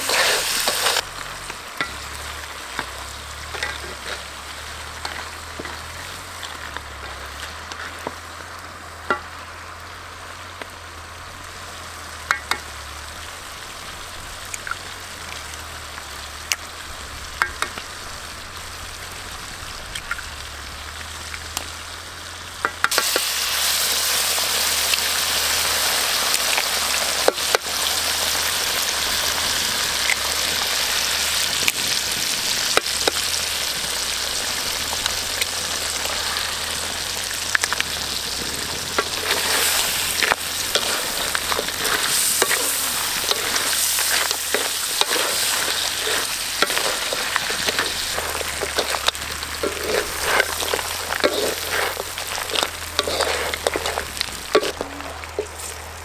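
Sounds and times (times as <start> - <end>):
crabs sizzling in a wok: 0.0 - 56.0.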